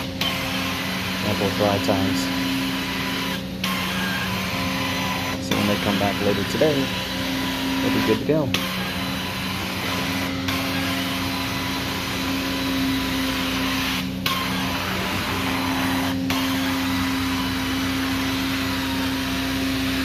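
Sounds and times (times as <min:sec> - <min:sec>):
carpet cleaning machine hum: 0:00.0 - 0:20.0.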